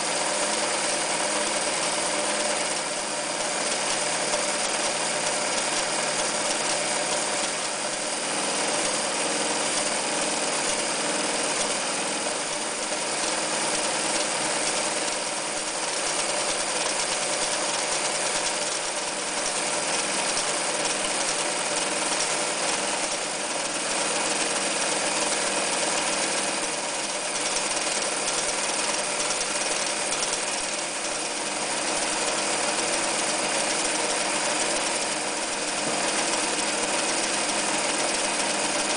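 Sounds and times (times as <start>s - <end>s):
electric sewing machine running: 0.0s - 38.9s.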